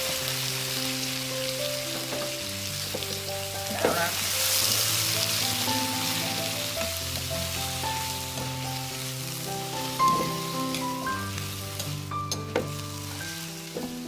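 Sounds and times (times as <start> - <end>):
background music with held notes: 0.0 - 14.0
food sizzling in hot oil: 0.0 - 14.0.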